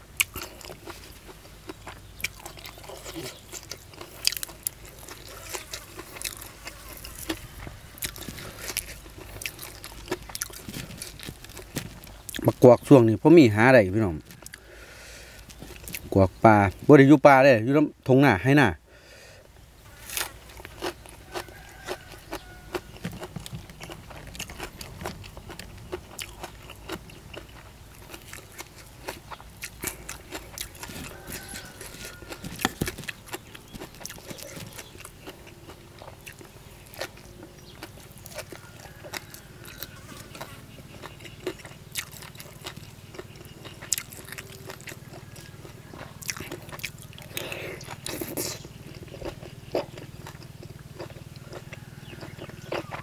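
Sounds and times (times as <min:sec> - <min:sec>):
person chewing crunchy food: 0:00.0 - 0:16.9, 0:19.8 - 0:53.0.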